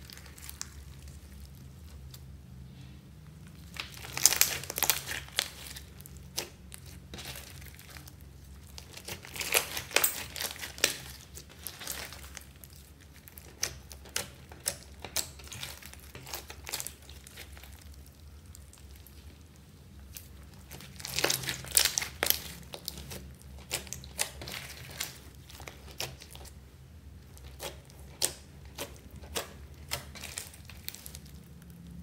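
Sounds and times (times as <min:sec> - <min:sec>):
hands squishing slime: 0:00.0 - 0:02.4, 0:03.3 - 0:32.0.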